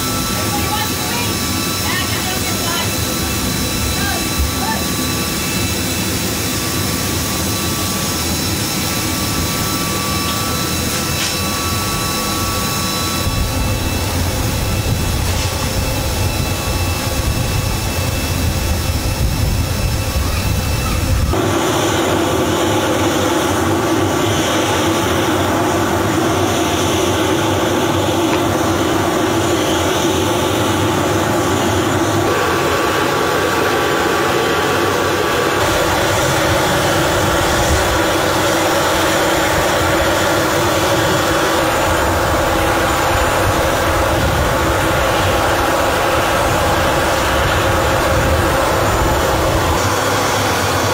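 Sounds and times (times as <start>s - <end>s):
jet engine hum and whine: 0.0s - 50.9s.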